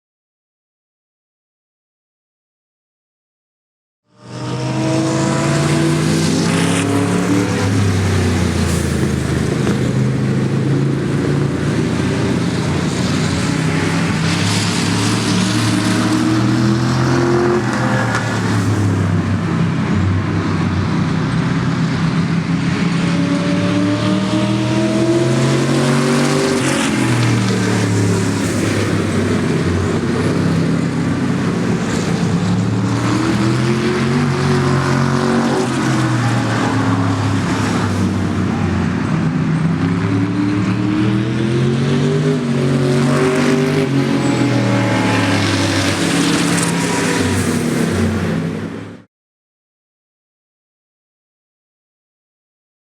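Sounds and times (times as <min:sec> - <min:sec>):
cars passing by: 0:04.1 - 0:49.1
race car engines: 0:04.1 - 0:49.1.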